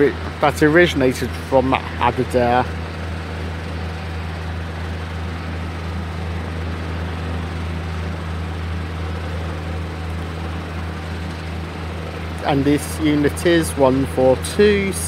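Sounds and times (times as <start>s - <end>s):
train diesel engine droning: 0.0s - 15.0s.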